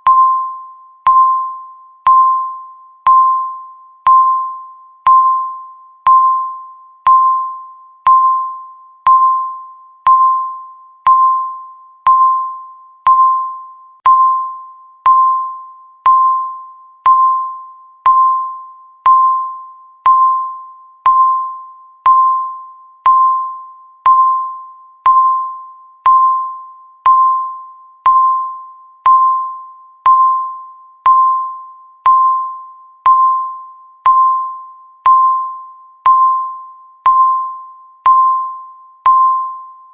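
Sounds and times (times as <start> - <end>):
high electronic timer beep: 0.0 - 39.9.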